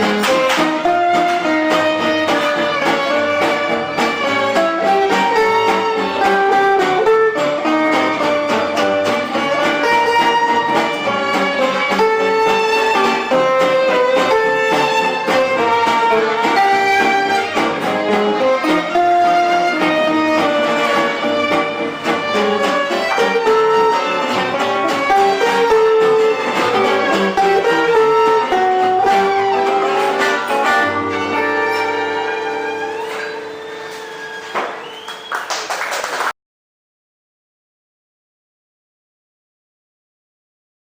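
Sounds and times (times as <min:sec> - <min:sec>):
violin melody: 0:00.0 - 0:34.6
strummed guitar: 0:00.0 - 0:35.3.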